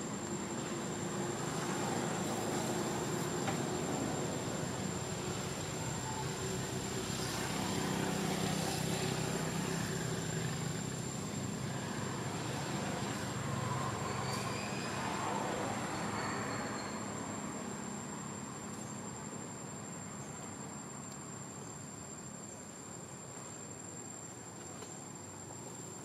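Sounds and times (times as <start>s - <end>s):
motor traffic noise: 0.0s - 20.8s.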